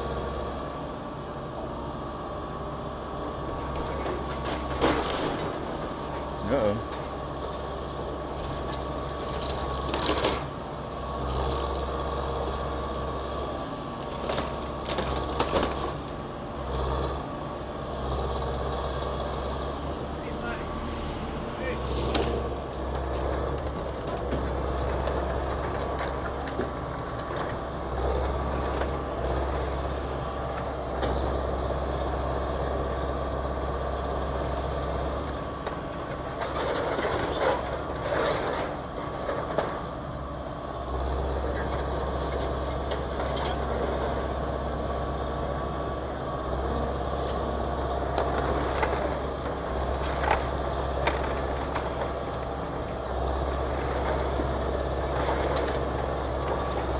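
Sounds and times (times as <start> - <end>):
excavator diesel engine: 0.0 - 56.9.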